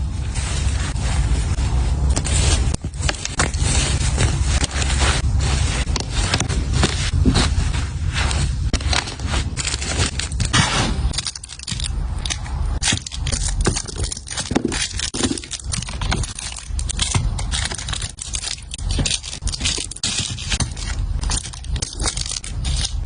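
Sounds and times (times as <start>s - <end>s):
items clicking and knocking: 2.1s - 23.0s.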